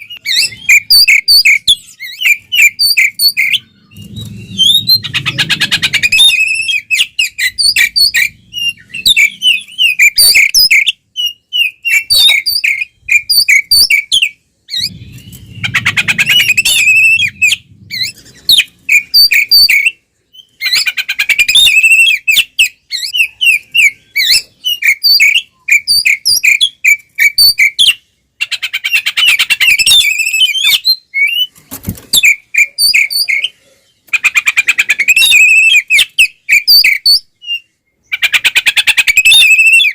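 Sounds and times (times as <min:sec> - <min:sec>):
bird singing whistles and chatter: 0:00.0 - 0:28.0, 0:28.8 - 0:39.9.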